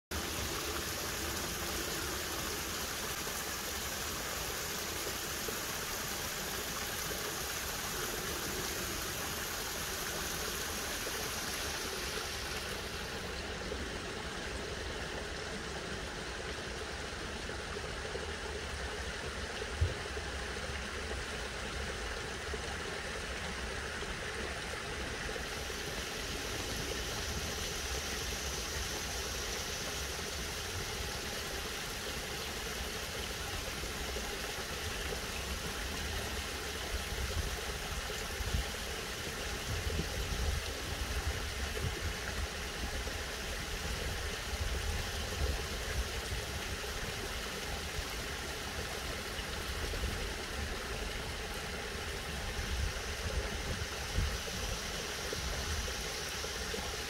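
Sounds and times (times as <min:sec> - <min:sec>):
creek cascading over rocks: 0:00.1 - 0:57.0.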